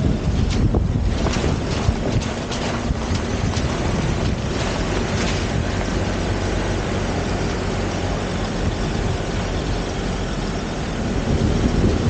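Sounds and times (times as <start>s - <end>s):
vehicle rumbling on gravel: 0.0s - 12.0s
wind rushing over microphone: 0.0s - 12.0s.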